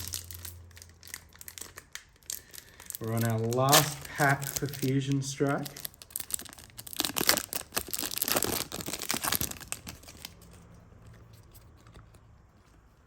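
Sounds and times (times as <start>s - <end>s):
foil wrapper tearing and crinkling: 0.0s - 10.6s.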